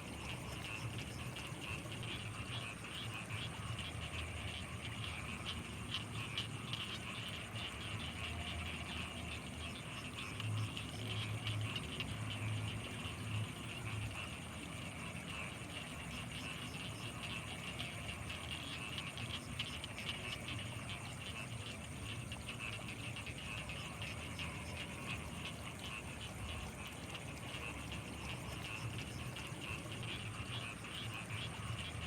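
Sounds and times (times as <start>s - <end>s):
frogs croaking: 0.0s - 32.0s.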